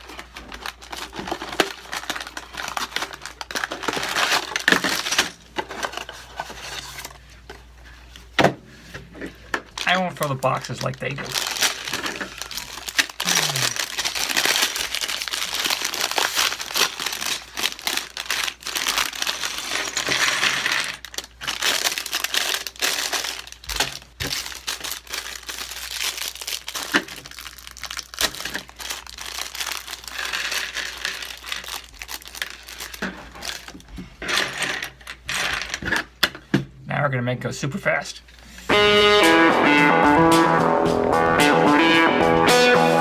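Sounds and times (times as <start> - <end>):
packaging crinkling and rustling: 0.0 - 36.3.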